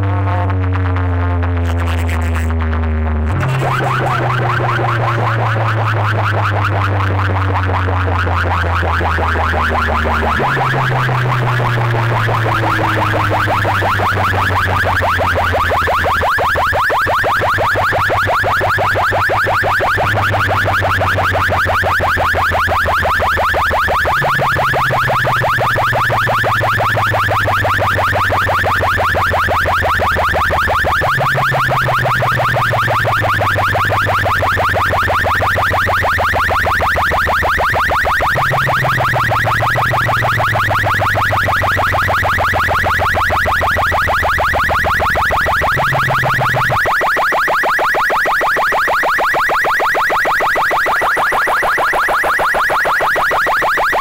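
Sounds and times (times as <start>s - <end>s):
deep bass tone: 0.0s - 46.8s
pulsing high alarm-like tone: 0.0s - 54.0s.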